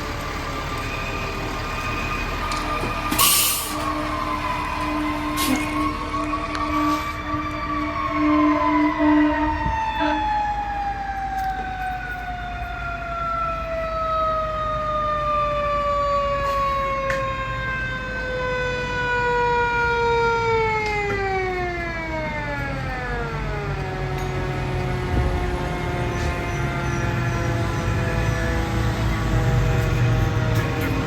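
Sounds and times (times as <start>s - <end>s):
fire engine siren winding down: 0.0s - 31.0s.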